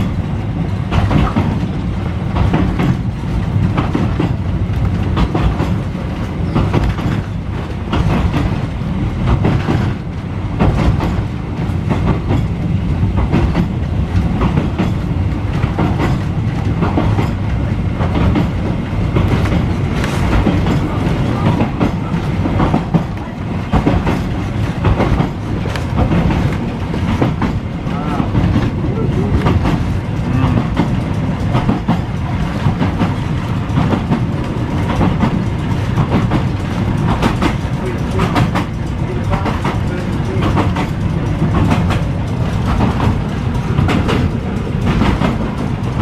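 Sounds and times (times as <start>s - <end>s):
tram running gear rumble: 0.0s - 46.0s
tram wheels clacking over rail joints: 0.0s - 46.0s.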